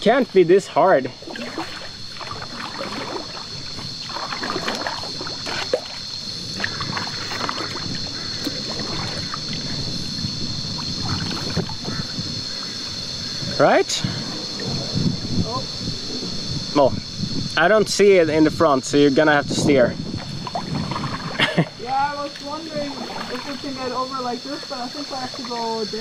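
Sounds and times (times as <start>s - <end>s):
paddles splashing in water: 0.0s - 16.5s, 20.0s - 26.0s.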